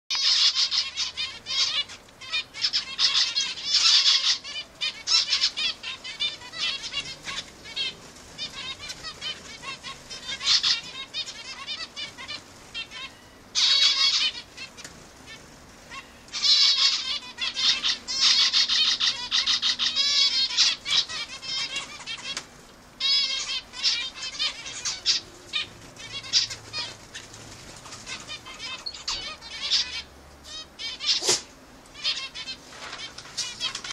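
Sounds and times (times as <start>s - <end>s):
finches calling: 0.1s - 33.9s.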